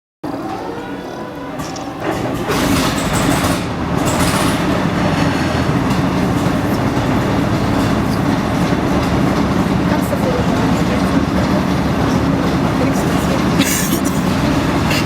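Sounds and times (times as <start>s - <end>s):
tank engine running: 0.3s - 15.0s.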